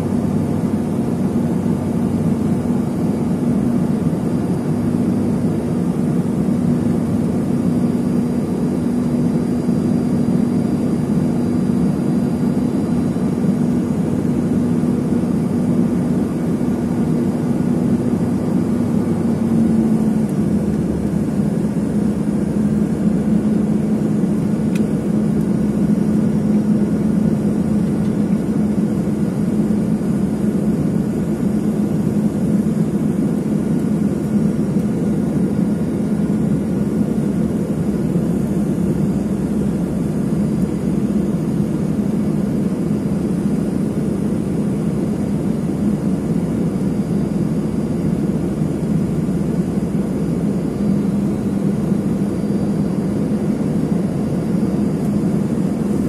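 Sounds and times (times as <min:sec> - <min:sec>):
jet engines humming: 0:00.0 - 0:56.0
rushing air in cabin: 0:00.0 - 0:56.0.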